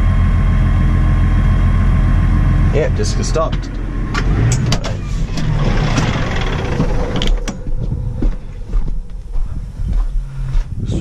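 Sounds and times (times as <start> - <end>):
tractor engine idling: 0.0 - 10.5
rushing noise: 0.7 - 9.8.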